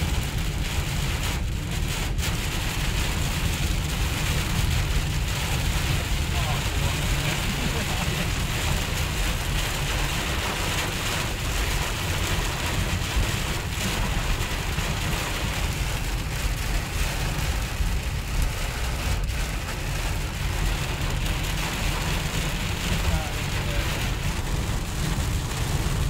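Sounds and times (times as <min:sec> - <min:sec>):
low rumble: 0:00.0 - 0:26.0
rain drumming on car roof: 0:00.0 - 0:26.0.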